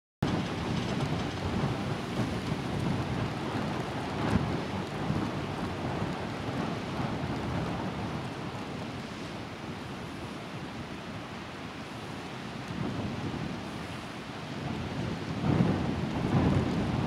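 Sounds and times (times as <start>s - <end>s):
wind buffeting microphone: 0.2s - 17.0s.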